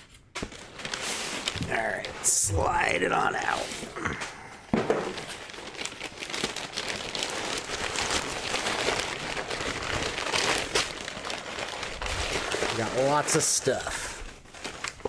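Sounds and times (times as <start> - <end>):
packing paper crinkling: 0.0 - 4.1, 5.0 - 15.0.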